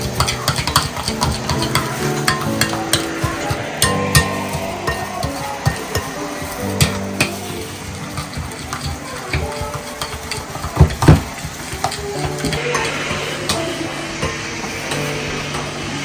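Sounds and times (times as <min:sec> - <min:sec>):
background music: 0:00.0 - 0:16.0
utensils knocking and scraping dishes: 0:00.0 - 0:16.0.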